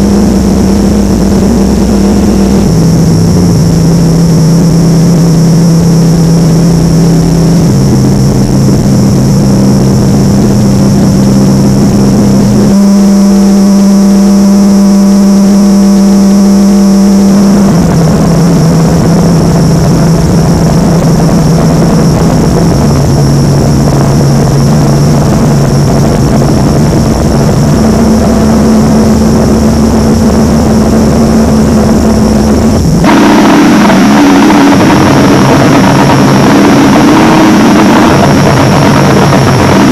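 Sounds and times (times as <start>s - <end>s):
constant high whine: 0.0s - 39.9s
distorted electronic alarm drone: 0.0s - 39.9s
harsh buzzing tone: 0.0s - 39.9s.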